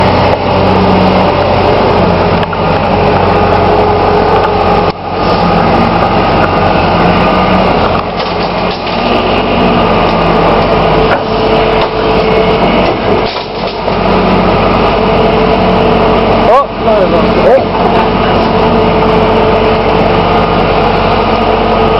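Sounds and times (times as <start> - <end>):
diesel engine running under load: 0.0 - 21.9.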